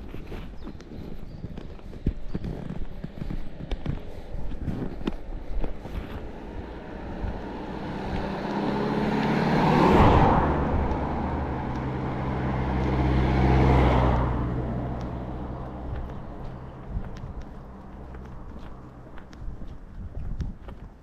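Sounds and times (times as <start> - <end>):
vehicles passing close on road: 0.0 - 21.0.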